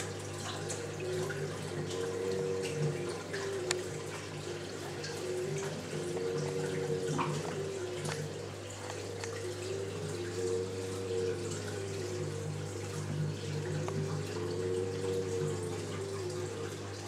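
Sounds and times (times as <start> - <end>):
steady low hum: 0.0 - 17.0
water drips and splashes: 0.0 - 17.0
water trickling in aquarium: 0.0 - 17.0.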